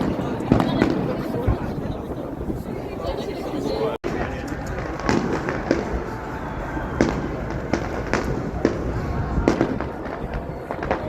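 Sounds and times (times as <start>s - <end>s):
fireworks bangs: 0.0s - 3.1s, 4.0s - 11.0s.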